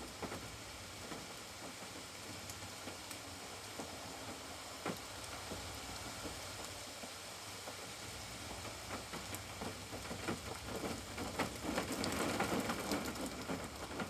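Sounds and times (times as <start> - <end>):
ticks of rain drops: 0.0 - 14.0.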